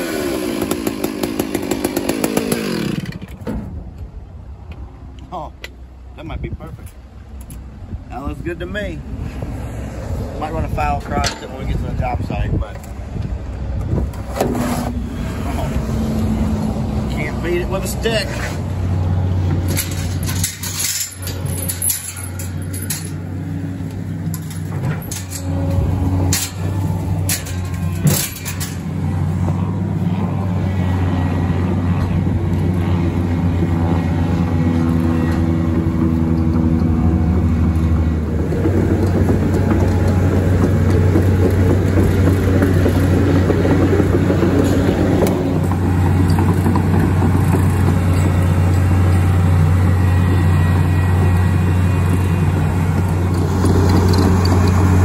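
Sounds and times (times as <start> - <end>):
large engine running: 0.0 - 3.9, 14.9 - 55.0.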